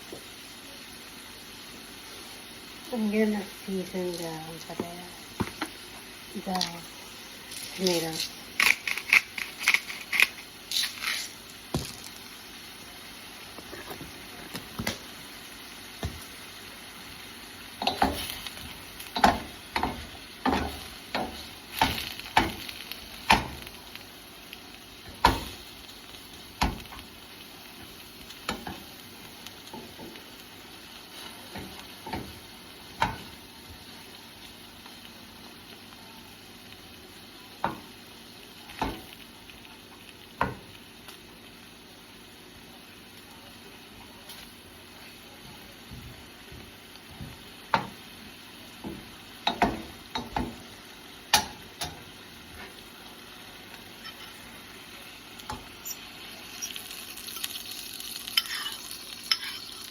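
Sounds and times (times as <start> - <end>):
tomatoes sizzling in a frying pan: 0.0 - 59.9.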